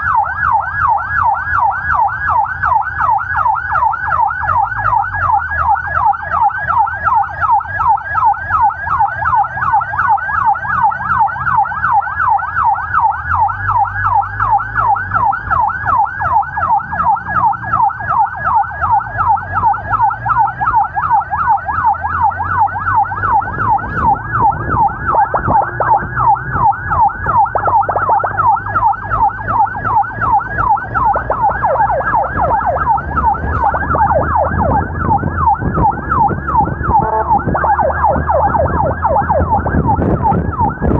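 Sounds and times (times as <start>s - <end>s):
siren yelping: 0.0s - 40.9s
vehicle engine and road noise: 0.0s - 40.9s.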